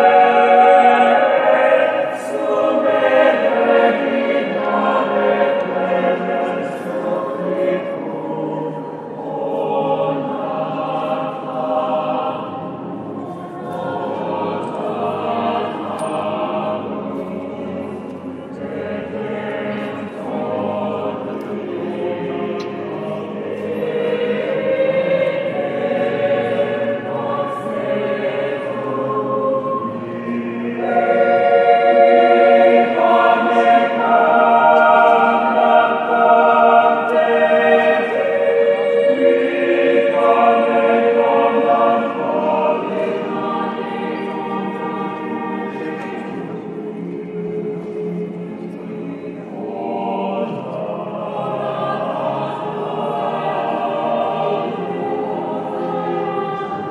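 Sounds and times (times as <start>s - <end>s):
choir singing a cappella: 0.0s - 56.9s.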